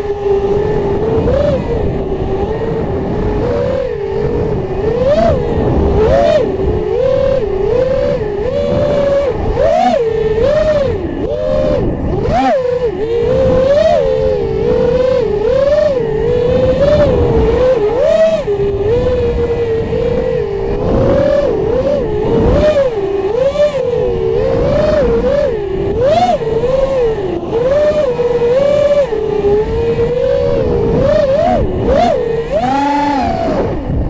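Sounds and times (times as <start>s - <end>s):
drone propellers whining: 0.0s - 34.0s
wind rushing over microphone: 0.0s - 34.0s.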